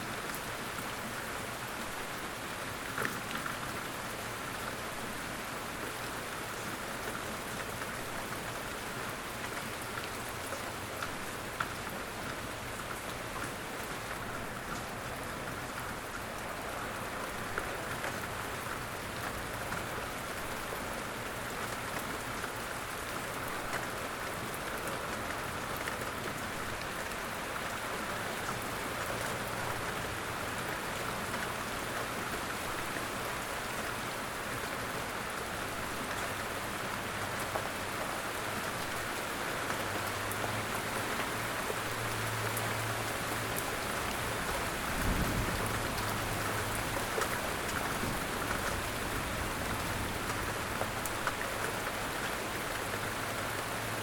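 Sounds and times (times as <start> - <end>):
light rain pattering: 0.0 - 54.0.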